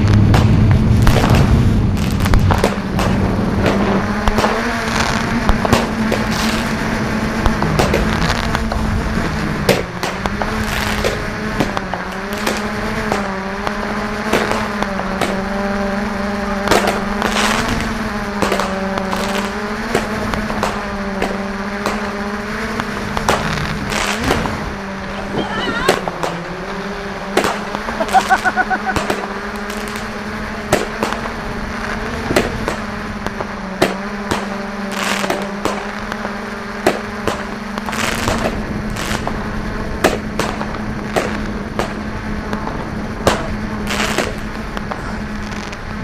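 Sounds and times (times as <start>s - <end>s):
drone propellers humming: 0.0s - 46.0s
fireworks bursting and cracking: 0.0s - 46.0s.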